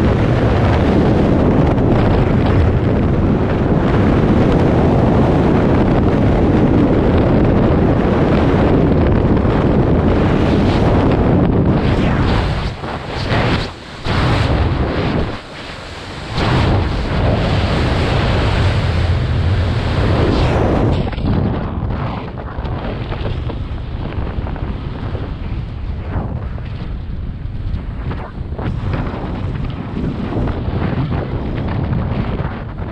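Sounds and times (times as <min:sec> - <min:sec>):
wind rushing over microphone: 0:00.0 - 0:32.9.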